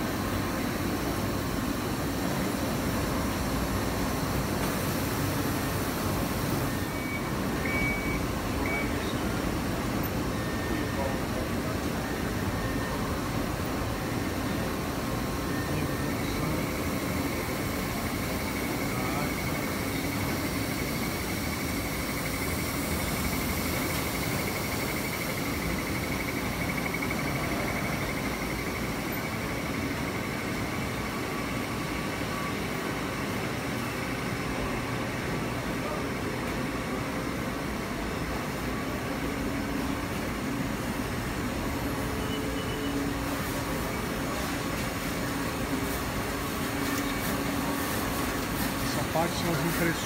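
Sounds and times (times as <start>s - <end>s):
machinery hum and hiss: 0.0s - 50.0s.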